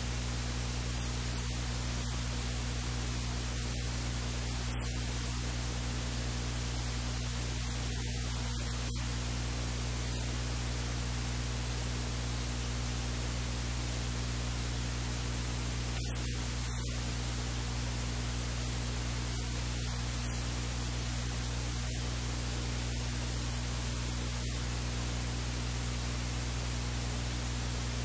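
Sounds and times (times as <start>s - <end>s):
electrical hiss: 0.0s - 28.0s
low mains hum: 0.0s - 28.0s.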